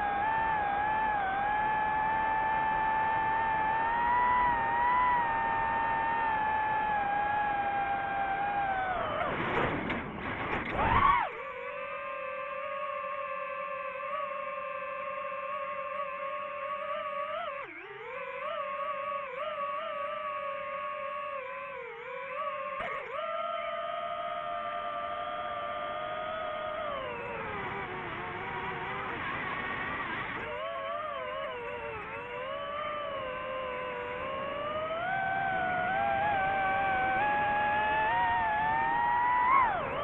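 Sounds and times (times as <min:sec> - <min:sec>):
drone electric motors whining: 0:00.0 - 0:40.0.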